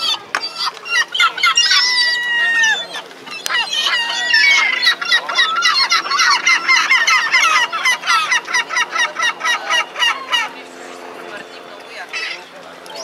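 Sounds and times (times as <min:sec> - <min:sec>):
gulls calling shrilly: 0:00.0 - 0:13.0.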